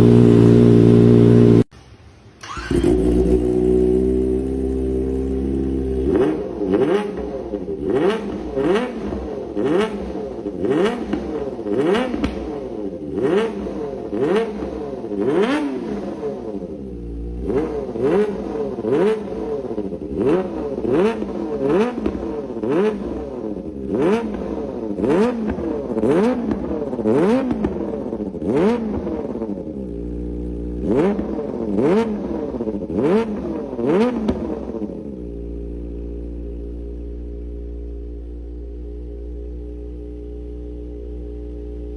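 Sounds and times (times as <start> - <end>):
motorcycle engine revving and idling: 0.0 - 1.7, 2.4 - 41.9.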